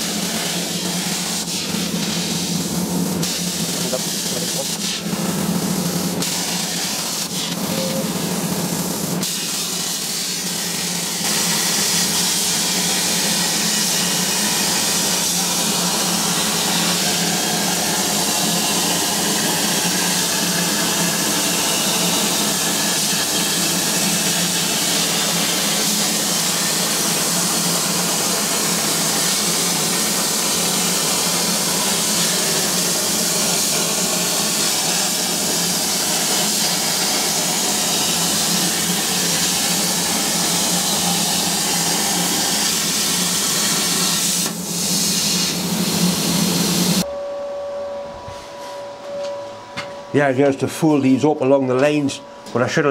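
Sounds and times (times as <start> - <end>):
plasma arc hissing: 0.0 - 47.0.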